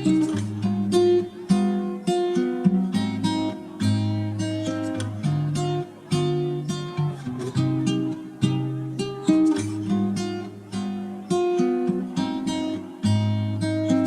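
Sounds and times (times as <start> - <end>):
acoustic guitar playing chords: 0.0 - 14.0.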